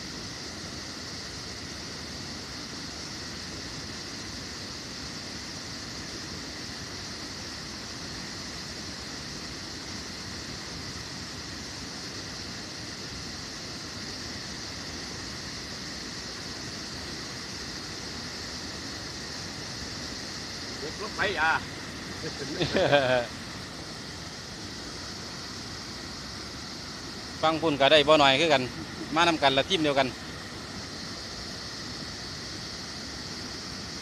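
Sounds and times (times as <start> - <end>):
constant high hiss: 0.0 - 34.0.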